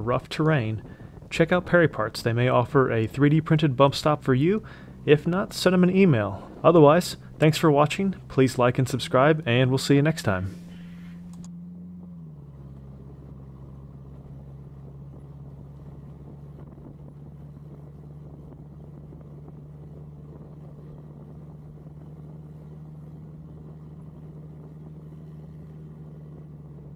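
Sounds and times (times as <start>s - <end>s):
buggy engine droning: 0.0s - 26.9s
road noise: 0.0s - 26.9s.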